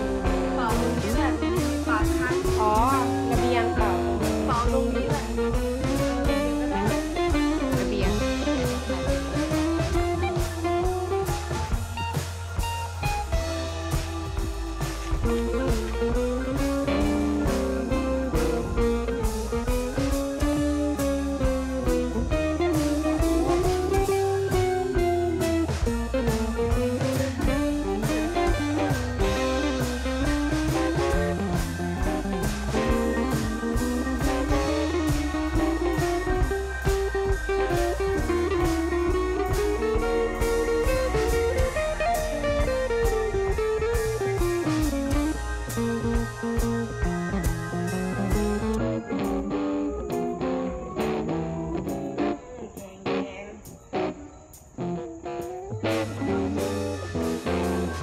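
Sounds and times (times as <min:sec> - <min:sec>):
steady drum beat: 0:00.0 - 0:52.4, 0:55.4 - 0:58.0
bass line: 0:00.0 - 0:58.0
blues guitar: 0:00.0 - 0:58.0.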